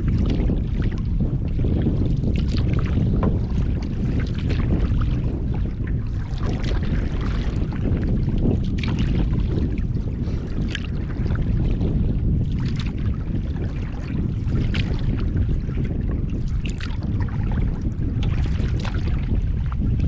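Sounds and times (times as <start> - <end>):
waves splashing against canoe: 0.0 - 20.0
wind rumbling on microphone: 0.0 - 20.0.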